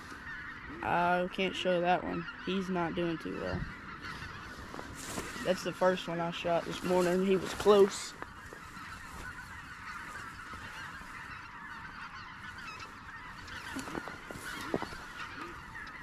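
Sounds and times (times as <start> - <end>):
flock of geese honking: 0.0 - 16.0.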